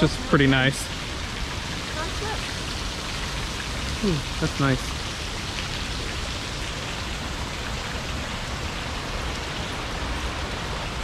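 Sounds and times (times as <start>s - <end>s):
river water rushing over rapids: 0.0s - 11.0s.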